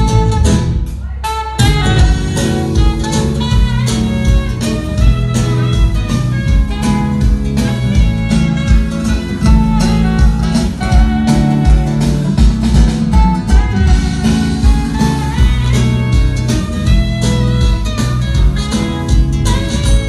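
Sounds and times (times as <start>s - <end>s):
bass: 0.0s - 20.0s
drum kit beat: 0.0s - 20.0s
guitar lines: 0.0s - 20.0s.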